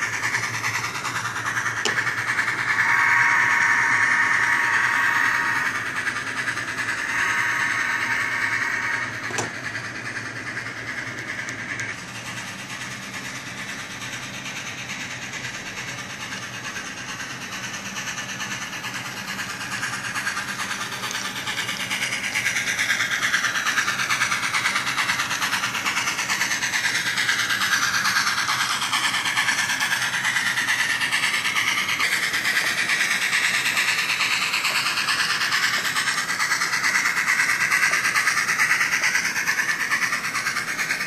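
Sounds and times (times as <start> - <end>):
steam locomotive sounds from speaker: 0.0 - 41.0.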